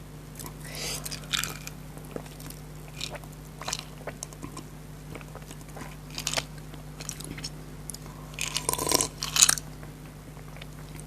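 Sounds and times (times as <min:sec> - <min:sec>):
mouth clicks and crunches: 0:00.4 - 0:11.0
person chewing: 0:00.4 - 0:11.0.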